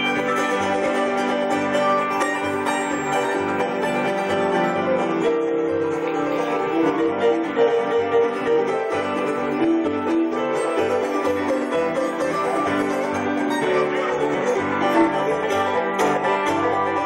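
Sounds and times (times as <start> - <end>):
mandolin: 0.0 - 17.0
piano: 0.0 - 17.0
strummed acoustic guitar: 0.0 - 17.0.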